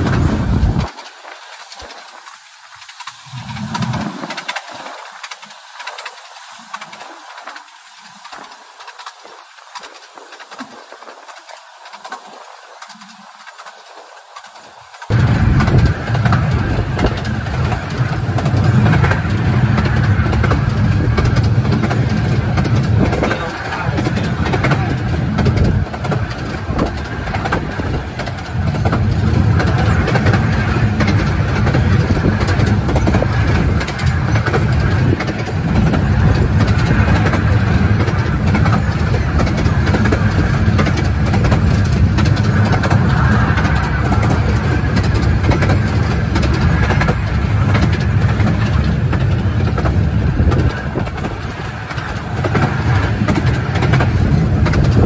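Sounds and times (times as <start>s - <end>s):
railway carriage wheels rumbling: 0.0s - 55.0s.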